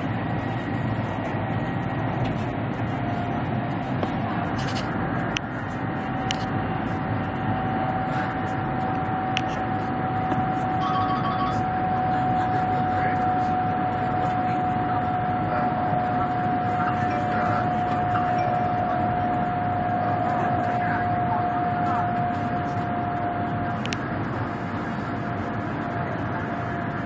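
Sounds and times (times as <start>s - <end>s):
steady whine: 0.0s - 27.0s
train rumble and rush: 0.0s - 27.0s.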